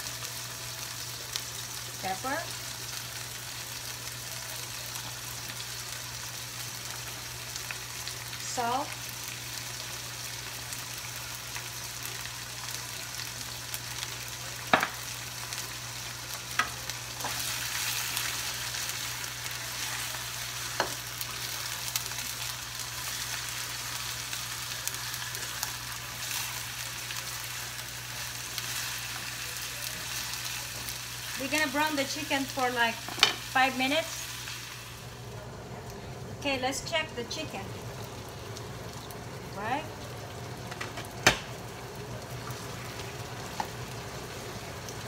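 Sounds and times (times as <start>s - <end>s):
chicken sizzling in frying pan: 0.0s - 45.0s.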